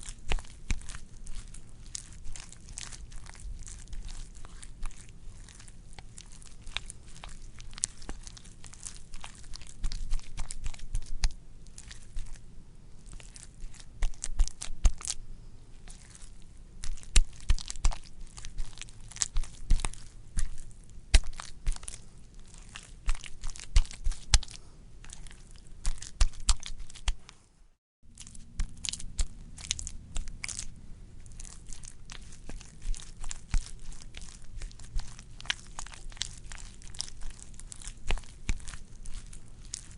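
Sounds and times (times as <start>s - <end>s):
wet squishy squelching: 0.0s - 15.2s, 15.8s - 27.4s, 28.1s - 39.9s.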